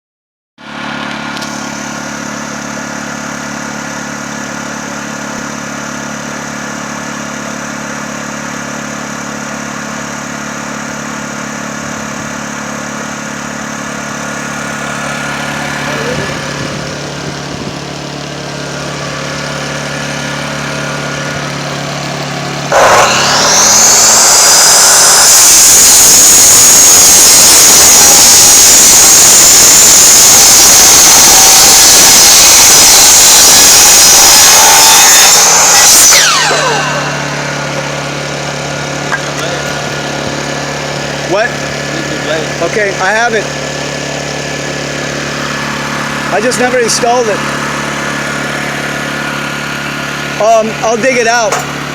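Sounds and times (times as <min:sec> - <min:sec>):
motor running: 0:00.6 - 0:51.9
power tool high-pitched whine: 0:00.6 - 0:51.9.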